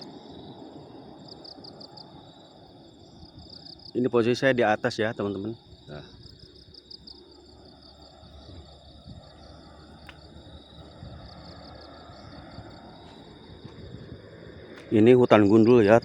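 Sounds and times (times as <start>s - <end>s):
insects chirping: 0.0s - 16.0s
low irregular rumble: 0.0s - 16.0s.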